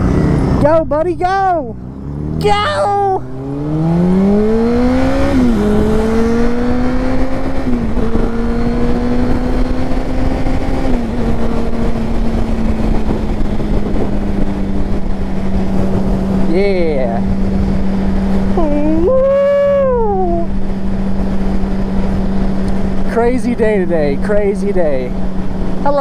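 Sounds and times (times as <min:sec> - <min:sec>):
motorcycle engine revving: 0:00.0 - 0:26.0
wind noise: 0:02.2 - 0:26.0.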